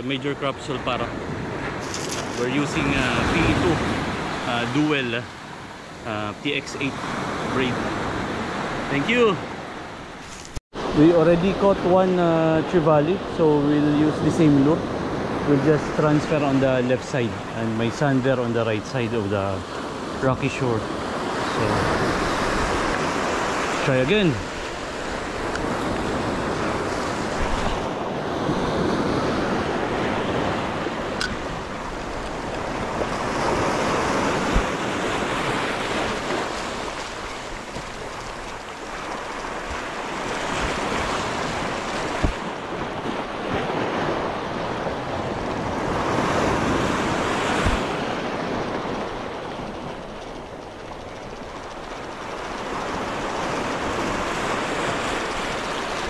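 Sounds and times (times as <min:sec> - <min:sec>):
surf washing over rocky shore: 0:00.0 - 0:09.5, 0:10.3 - 0:56.0.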